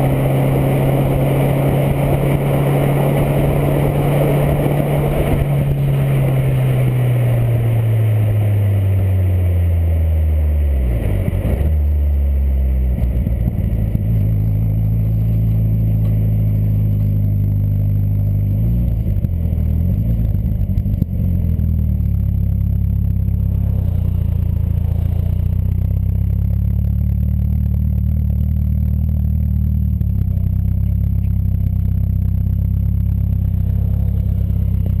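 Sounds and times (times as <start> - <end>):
car engine revving down to idle: 0.0 - 35.0.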